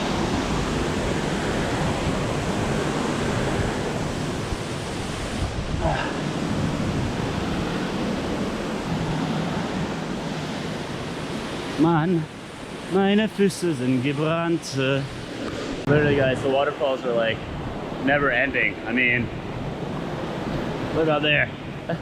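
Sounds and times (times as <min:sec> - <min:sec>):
river and waterfall rushing: 0:00.0 - 0:22.0.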